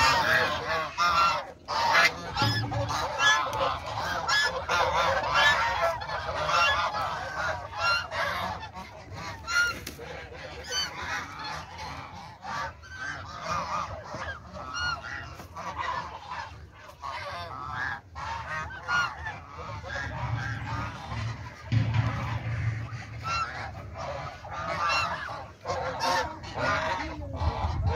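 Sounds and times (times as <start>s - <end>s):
geese honking: 0.0s - 27.9s.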